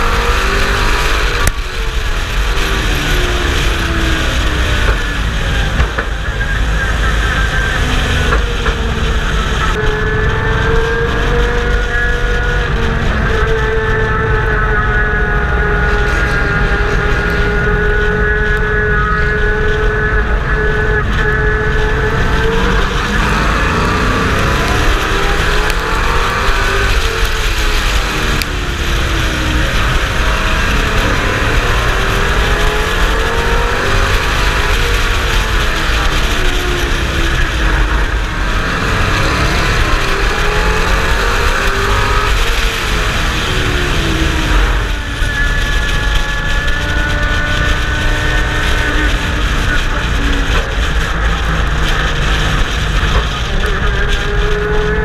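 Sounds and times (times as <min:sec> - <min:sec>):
heavy wind rumble: 0:00.0 - 0:55.0
race truck engine revving: 0:00.0 - 0:55.0.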